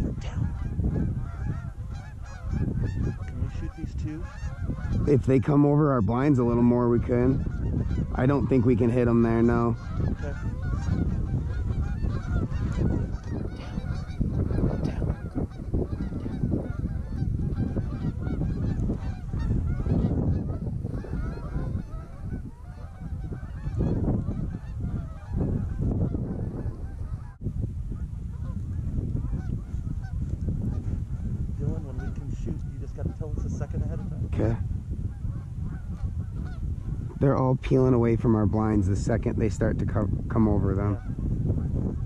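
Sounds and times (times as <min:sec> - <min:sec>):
geese honking: 0:00.2 - 0:27.4, 0:28.0 - 0:33.2, 0:35.1 - 0:38.0.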